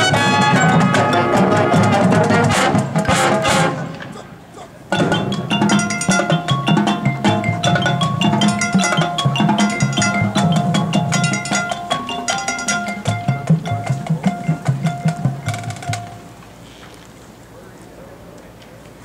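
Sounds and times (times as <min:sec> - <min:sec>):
mallet percussion notes: 0:00.0 - 0:04.0, 0:04.9 - 0:16.4
marching drums: 0:00.0 - 0:16.3.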